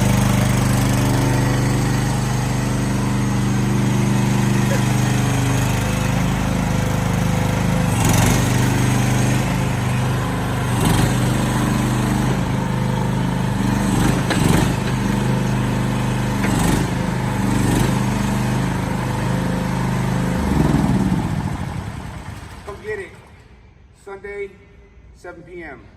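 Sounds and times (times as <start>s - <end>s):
excavator engine running: 0.0s - 23.4s.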